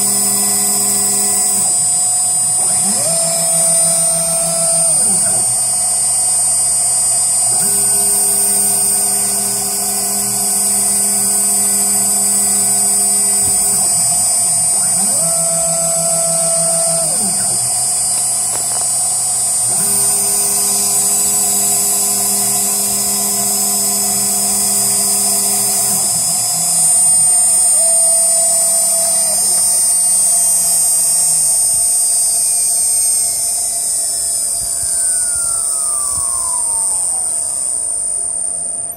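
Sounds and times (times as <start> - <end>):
spindle high whine: 0.0 - 38.9
stepper motors gliding tone: 0.0 - 38.9.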